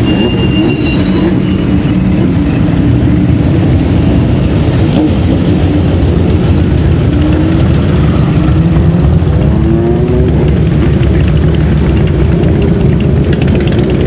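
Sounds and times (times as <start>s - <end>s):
vehicle engines driving past: 0.0s - 14.0s.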